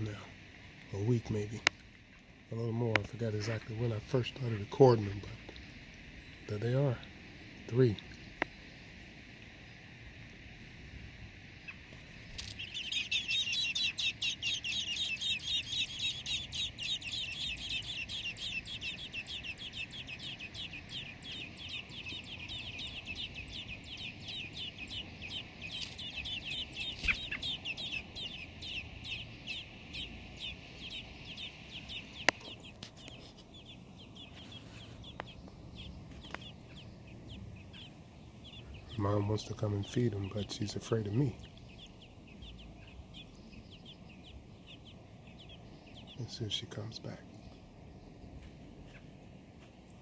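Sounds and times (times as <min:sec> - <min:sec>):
nestlings begging calls: 0:02.5 - 0:09.1, 0:11.2 - 0:50.0.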